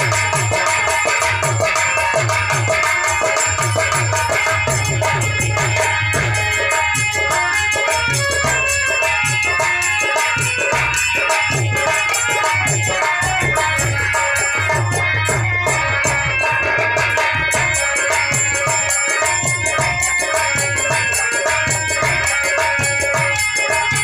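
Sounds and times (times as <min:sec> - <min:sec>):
fast percussion clicks: 0:00.0 - 0:24.0
harmonium melody: 0:00.0 - 0:24.0.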